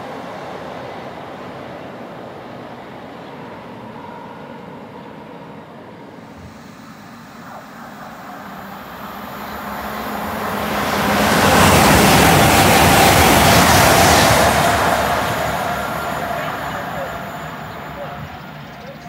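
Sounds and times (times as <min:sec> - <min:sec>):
train rushing through station: 0:00.0 - 0:19.0.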